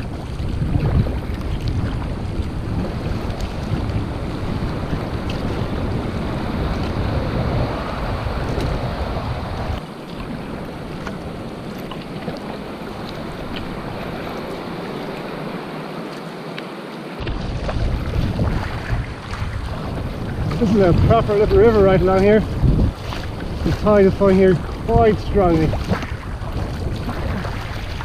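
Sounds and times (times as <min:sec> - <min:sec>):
sea waves: 0:00.0 - 0:28.0
wind buffeting microphone: 0:00.0 - 0:28.0.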